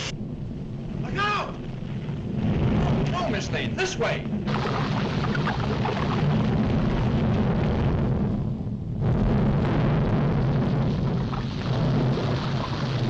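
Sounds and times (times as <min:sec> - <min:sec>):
cartoon volcano rumbling: 0:00.1 - 0:13.0.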